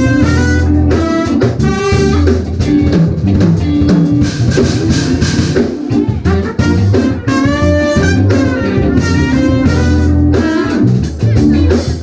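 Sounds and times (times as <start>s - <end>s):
jazz fusion band playing: 0.0s - 12.0s.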